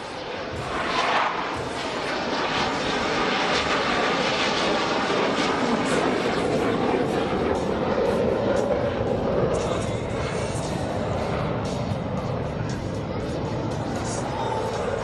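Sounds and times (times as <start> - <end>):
fighter jet roar: 0.0 - 15.0.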